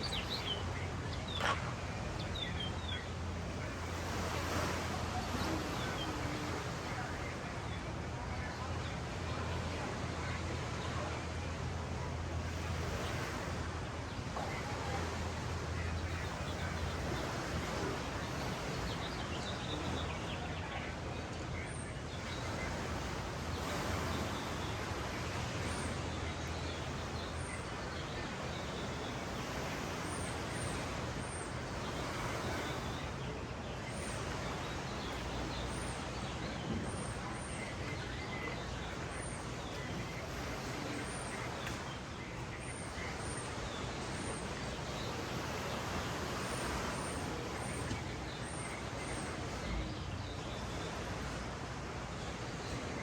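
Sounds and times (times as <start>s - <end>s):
small birds chirping: 0.0s - 7.8s, 13.0s - 53.0s
surf washing: 0.0s - 53.0s.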